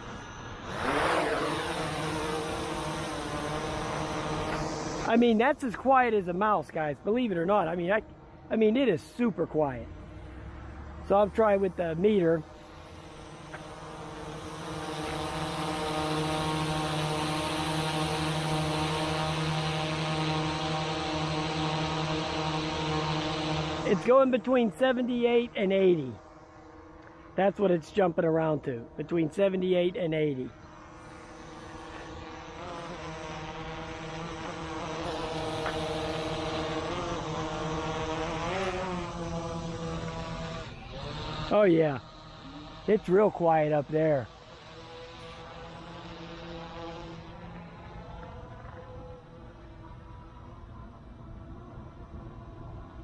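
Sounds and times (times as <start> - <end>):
drone propeller hum: 0.0 - 53.0.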